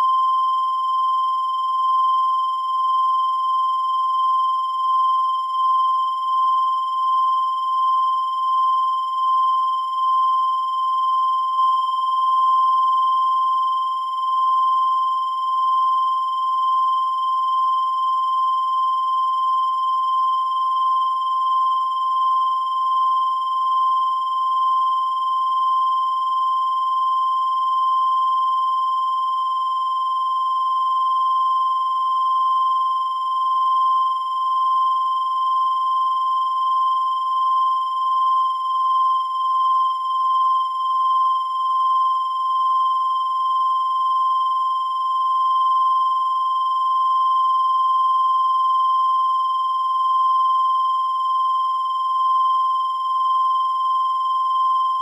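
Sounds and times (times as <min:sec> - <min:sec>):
continuous high-pitched beep: 0:00.0 - 0:55.0.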